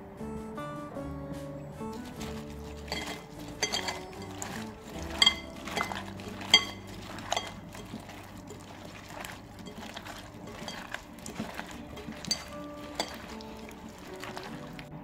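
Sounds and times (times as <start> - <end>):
wet squelching of batter mixing: 1.8 - 15.0
clinks against glass bowl: 2.0 - 14.5.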